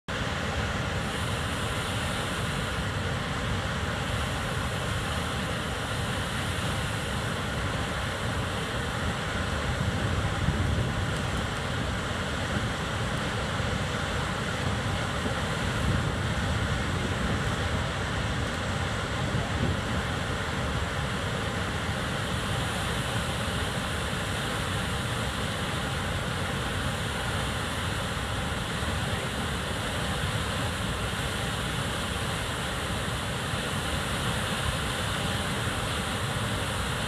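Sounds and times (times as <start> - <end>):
waterfall rushing: 0.1 - 37.0.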